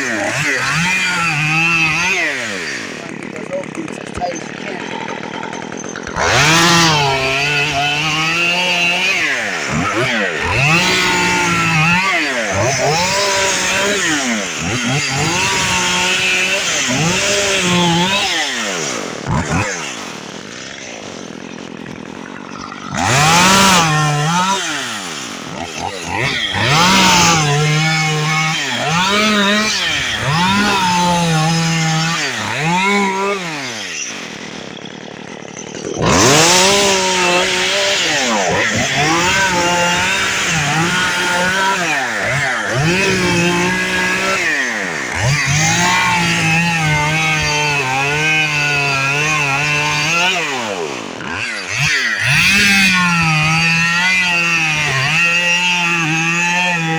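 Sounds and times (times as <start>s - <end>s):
chainsaw revving and cutting: 0.0s - 56.9s.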